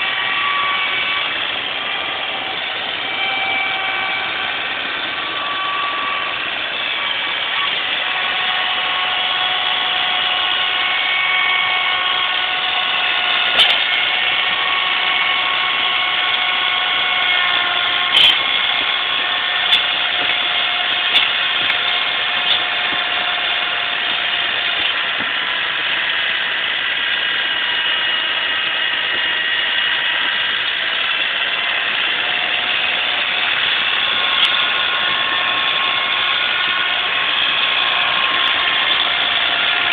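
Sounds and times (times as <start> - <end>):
snowblower mechanical whine: 0.0 - 39.9.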